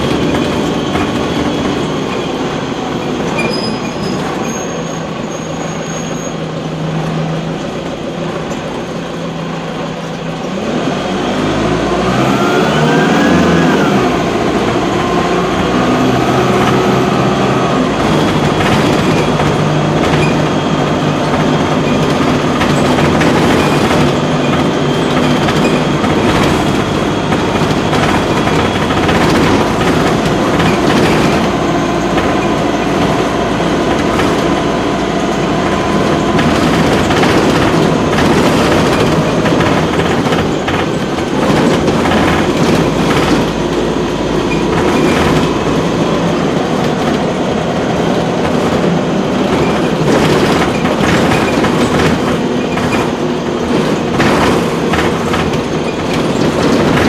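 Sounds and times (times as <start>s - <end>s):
bus body rattles: 0.0s - 57.0s
bus diesel engine: 0.0s - 57.0s.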